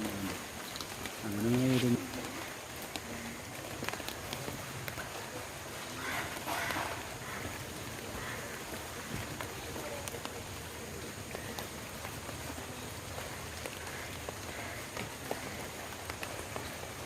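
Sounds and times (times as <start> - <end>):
water drips and clicks: 0.0 - 17.0
water pattering: 0.0 - 17.0.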